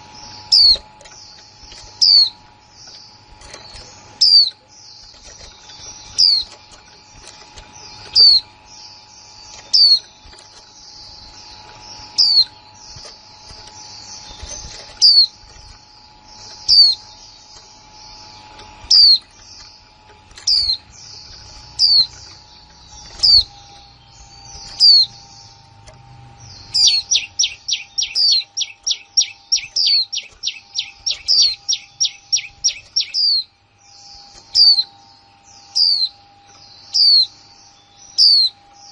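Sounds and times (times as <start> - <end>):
bird calling sharp notes: 0.0 - 25.7, 26.4 - 35.0.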